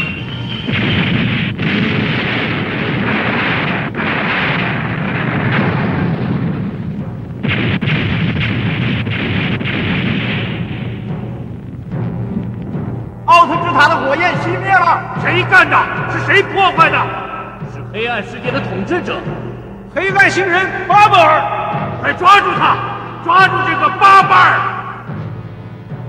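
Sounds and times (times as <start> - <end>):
explosions: 0.0 - 23.8.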